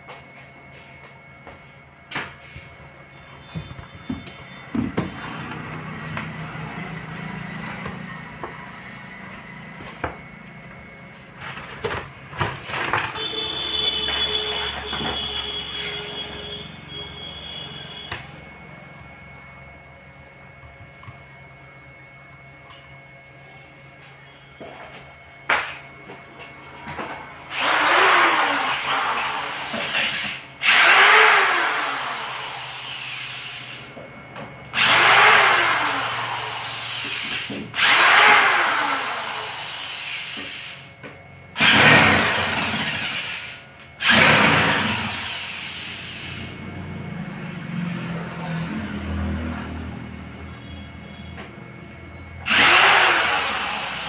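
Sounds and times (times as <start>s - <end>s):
electric drill motor: 3.2s - 21.6s, 26.9s - 54.0s.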